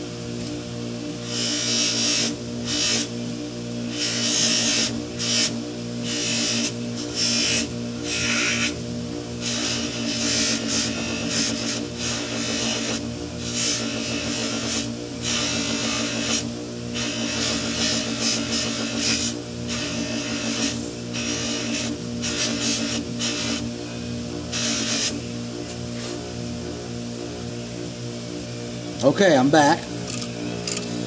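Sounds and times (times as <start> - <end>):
electric motor hum: 0.0 - 31.0.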